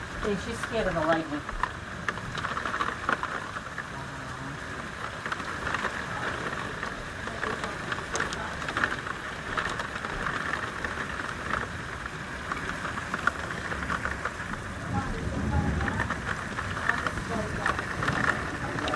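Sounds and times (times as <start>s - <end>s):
heavy rain falling: 0.0s - 18.9s
raindrops ticking on hard surface: 0.0s - 18.9s.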